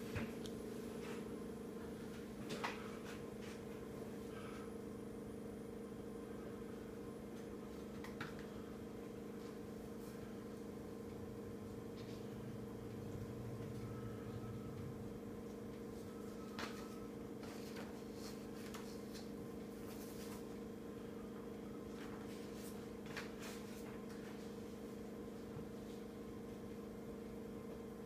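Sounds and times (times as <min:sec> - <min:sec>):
electrical fan hum: 0:00.0 - 0:28.0.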